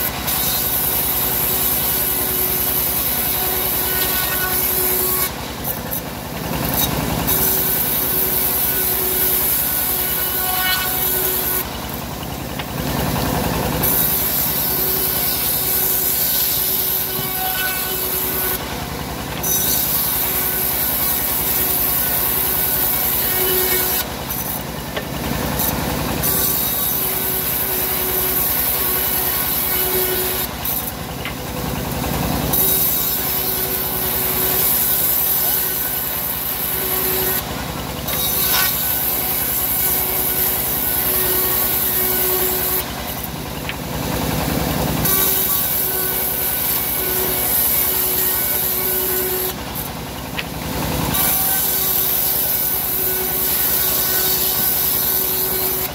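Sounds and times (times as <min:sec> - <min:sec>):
band saw blade cutting wood: 0:00.0 - 0:43.8, 0:44.5 - 0:55.9
sawmill humming: 0:00.0 - 0:55.9.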